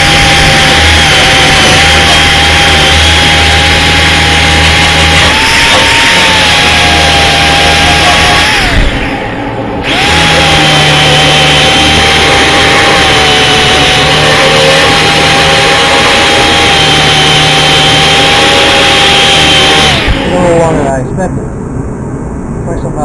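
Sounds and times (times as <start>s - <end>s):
electric grinder whining: 0.0s - 21.0s.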